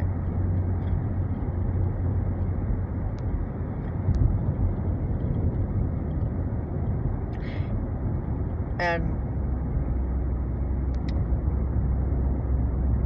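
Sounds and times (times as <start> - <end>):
vehicle road rumble: 0.0 - 13.0.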